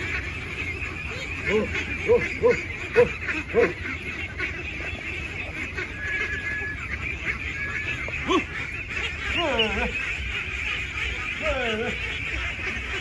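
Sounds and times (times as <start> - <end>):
flock of ducks chattering: 0.0 - 13.0.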